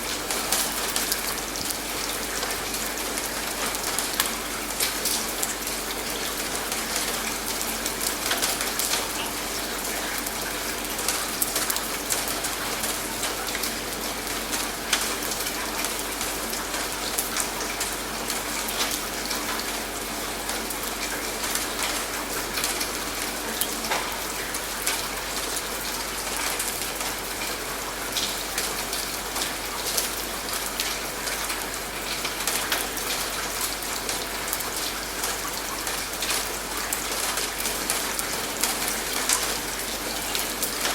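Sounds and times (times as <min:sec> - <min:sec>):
raindrops ticking on a surface: 0:00.0 - 0:40.9
steady rain falling: 0:00.0 - 0:40.9.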